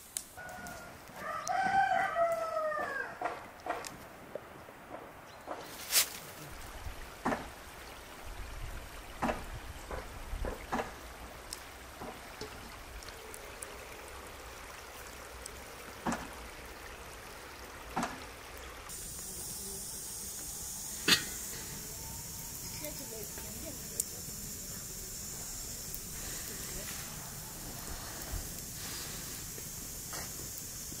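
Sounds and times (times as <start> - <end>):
pot steaming with high hiss: 0.0 - 3.9, 5.6 - 31.0
running water: 5.6 - 31.0.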